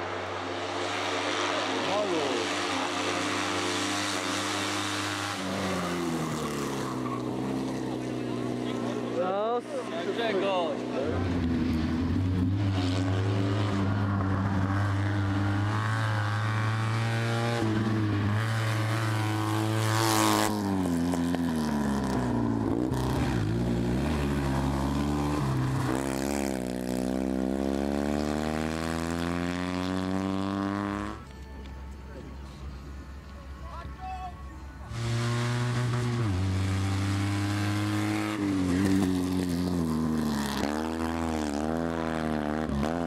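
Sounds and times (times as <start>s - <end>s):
car engine revving hard: 0.7s - 9.0s, 11.4s - 31.2s, 34.9s - 43.0s.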